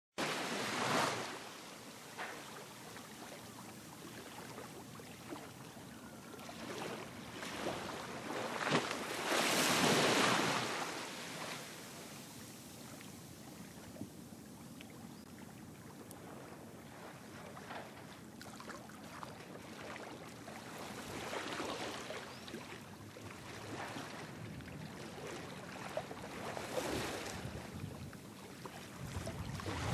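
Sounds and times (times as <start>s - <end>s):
small sea waves washing: 0.2s - 29.9s.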